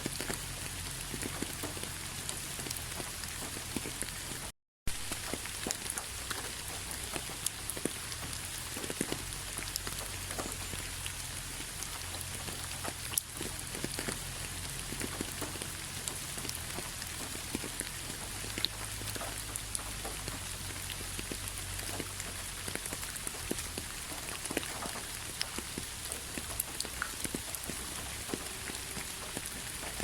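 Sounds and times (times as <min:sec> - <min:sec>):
raindrop impacts: 0:00.0 - 0:30.0
steady rainfall: 0:00.0 - 0:30.0.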